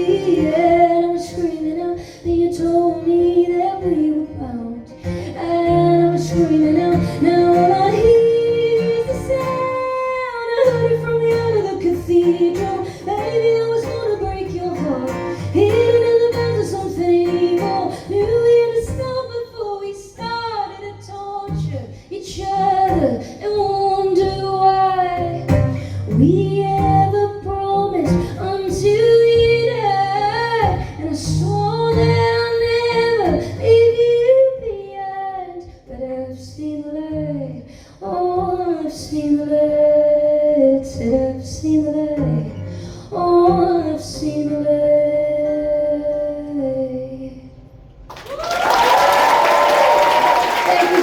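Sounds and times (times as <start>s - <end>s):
woman singing: 0.0s - 47.7s.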